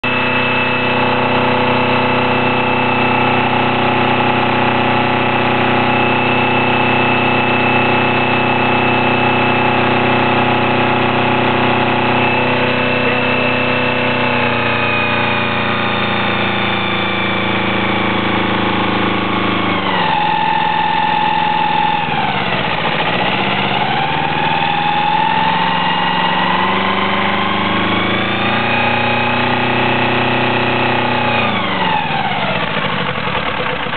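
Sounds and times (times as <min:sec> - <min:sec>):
high steady squeal: 0:00.0 - 0:33.2
diesel engine running: 0:00.0 - 0:33.9.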